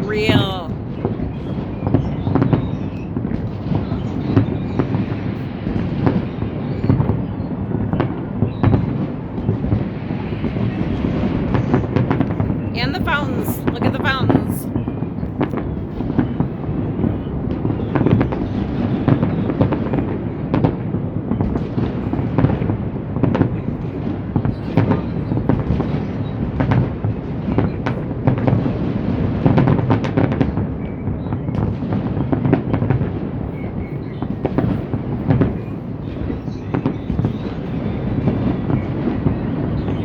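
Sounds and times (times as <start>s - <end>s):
fireworks booming and cracking: 0.0s - 40.0s.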